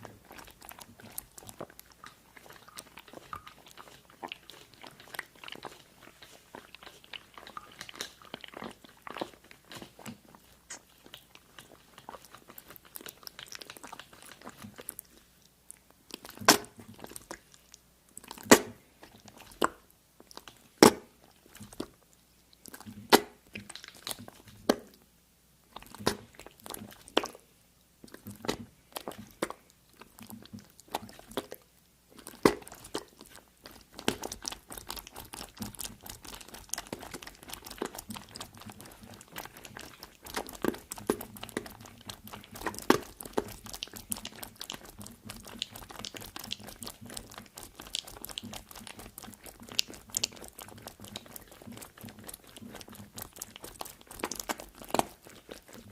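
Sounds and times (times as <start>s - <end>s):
crunching bites and chewing: 0.0s - 22.0s, 28.0s - 55.9s.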